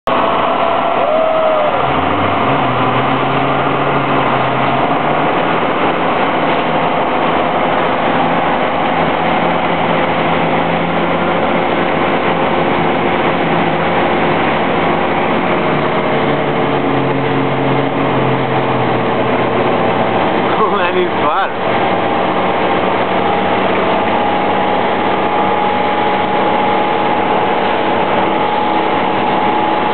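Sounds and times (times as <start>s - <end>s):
boat engine running: 0.0s - 29.9s
wind: 0.0s - 29.9s
rush of boat wake: 0.1s - 29.9s.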